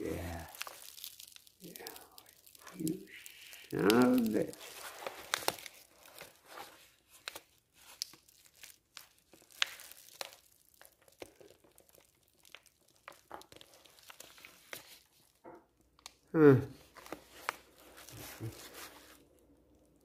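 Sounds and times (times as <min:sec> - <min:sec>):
paper envelope crinkling: 0:00.0 - 0:15.4, 0:16.8 - 0:20.0.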